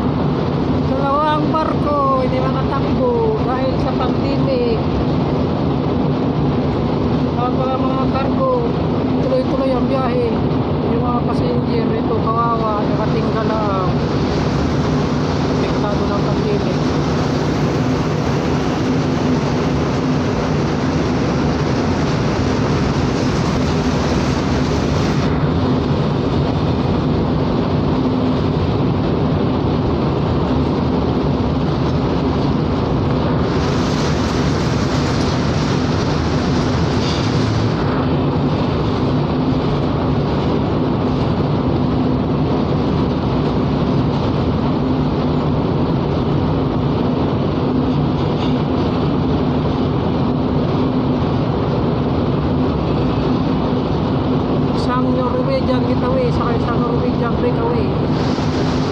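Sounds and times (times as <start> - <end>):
ship engines droning: 0.0 - 58.9.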